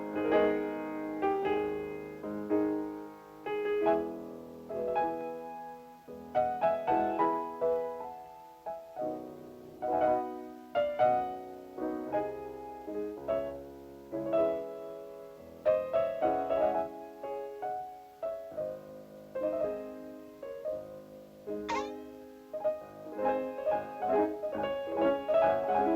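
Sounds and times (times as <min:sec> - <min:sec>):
piano notes and chords: 0:00.0 - 0:25.9.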